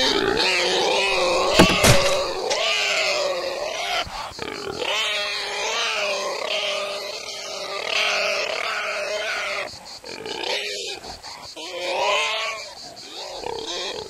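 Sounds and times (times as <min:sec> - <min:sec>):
pig squealing and grunting: 0:00.0 - 0:11.0, 0:11.6 - 0:14.0.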